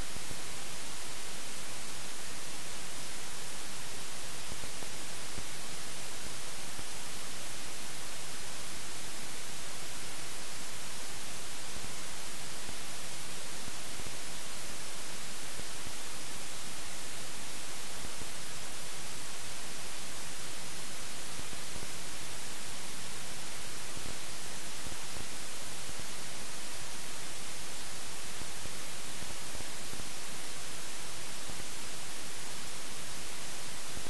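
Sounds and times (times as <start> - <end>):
electronic static hiss: 0.0 - 34.0.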